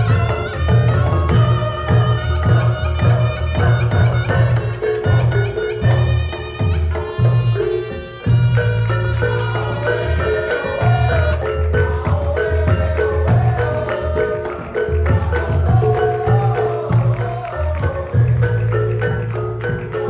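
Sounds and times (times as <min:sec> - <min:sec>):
ringing mallet percussion: 0:00.0 - 0:20.0
wavering melody: 0:00.0 - 0:20.0.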